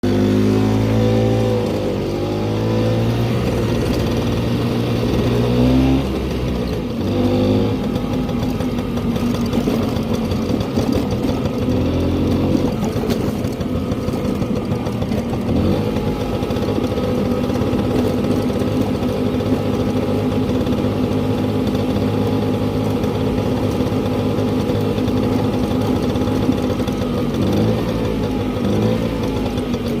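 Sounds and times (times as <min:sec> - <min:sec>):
motor scooter engine running: 0:00.0 - 0:30.0.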